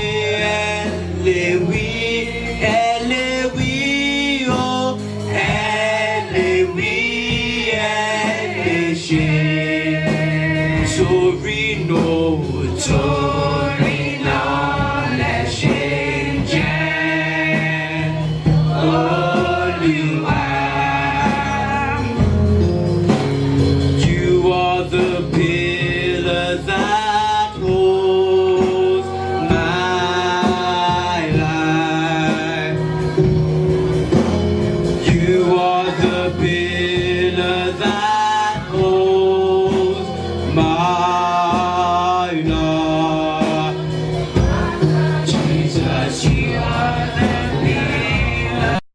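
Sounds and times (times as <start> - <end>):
low instrumental accompaniment: 0.0 - 48.8
choir singing a gospel hymn: 0.0 - 48.9.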